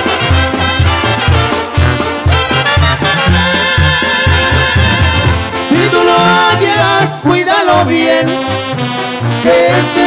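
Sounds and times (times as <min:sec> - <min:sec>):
brass band playing: 0:00.0 - 0:10.0.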